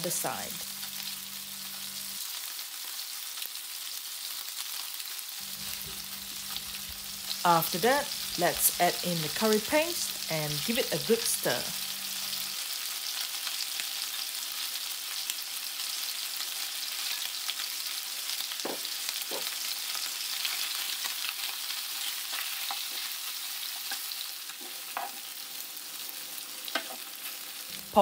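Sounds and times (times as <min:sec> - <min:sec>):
chicken sizzling in hot oil: 0:00.0 - 0:28.0.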